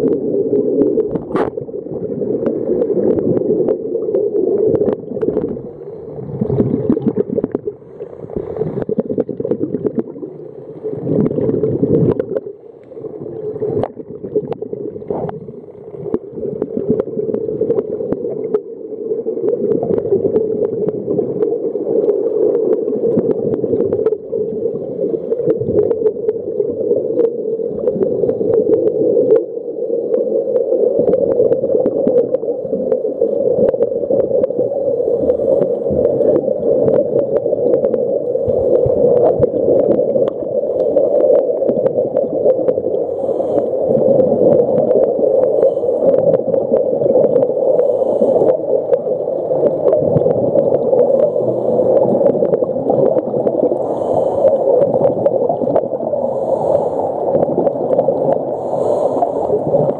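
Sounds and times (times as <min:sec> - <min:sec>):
underwater low hum: 0:00.0 - 0:59.9
water gurgling: 0:00.0 - 0:59.9.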